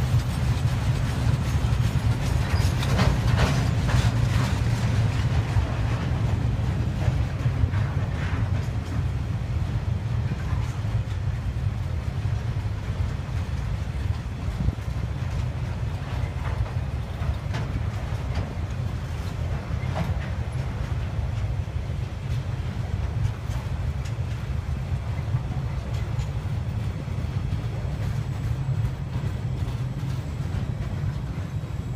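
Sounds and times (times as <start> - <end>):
freight train rolling past: 0.0 - 31.9.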